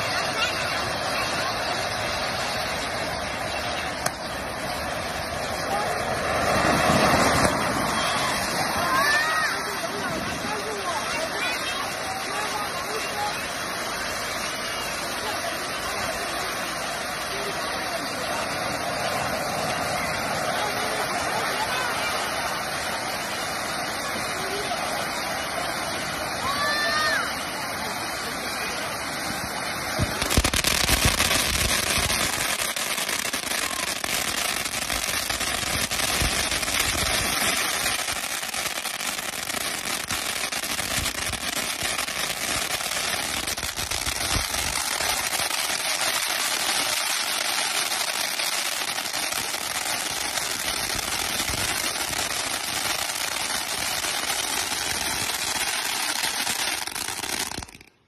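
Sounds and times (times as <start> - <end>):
firework fountain crackling: 0.0 - 58.0.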